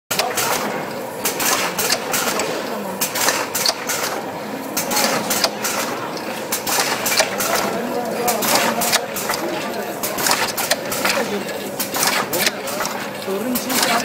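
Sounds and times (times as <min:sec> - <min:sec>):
machine sharp clacks: 0:00.1 - 0:14.0
mechanical clatter: 0:00.1 - 0:14.0.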